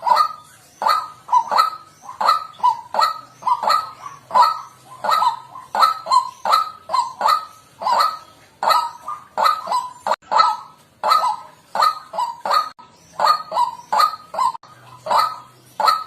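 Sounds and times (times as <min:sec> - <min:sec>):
waterhen honking calls: 0:00.0 - 0:16.0.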